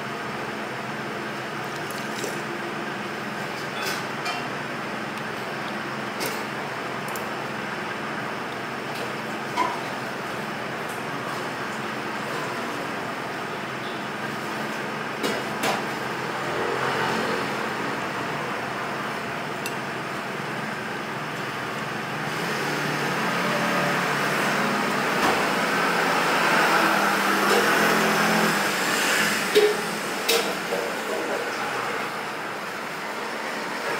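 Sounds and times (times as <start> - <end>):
road traffic noise: 0.0 - 33.9.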